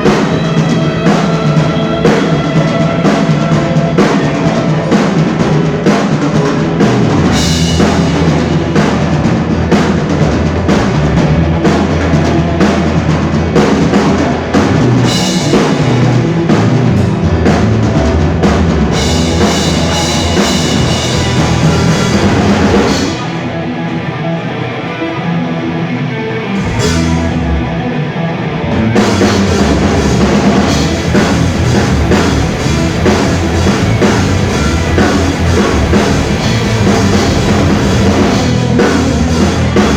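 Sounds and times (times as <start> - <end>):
drum kit: 0.0 - 24.1, 26.5 - 39.9
bass guitar: 0.0 - 39.9
electric guitar: 0.0 - 39.9.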